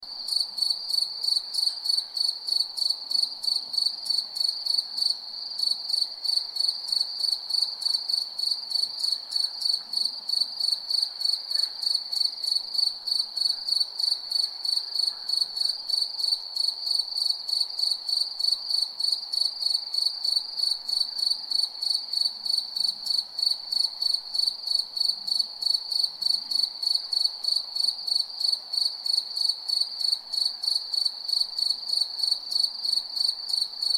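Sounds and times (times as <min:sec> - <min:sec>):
faint background hiss: 0:00.0 - 0:33.9
cricket chirping: 0:00.1 - 0:33.9.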